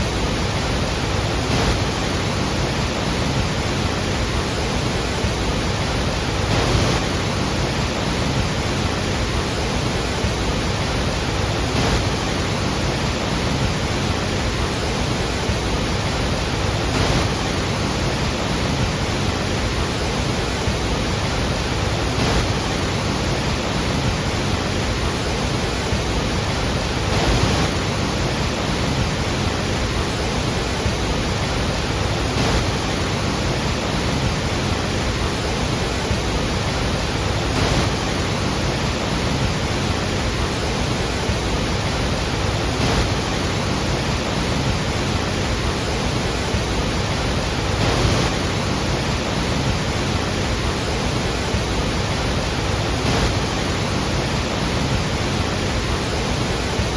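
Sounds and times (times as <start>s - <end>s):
heavy falling water rushing: 0.0s - 56.9s.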